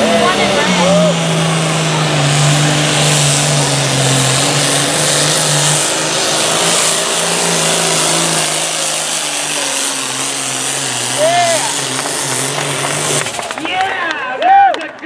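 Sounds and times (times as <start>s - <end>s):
tractor diesel engine at full throttle: 0.0s - 14.4s.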